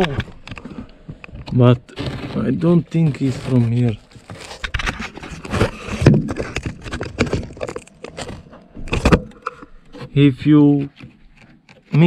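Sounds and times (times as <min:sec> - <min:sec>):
scraping: 0:00.0 - 0:12.0.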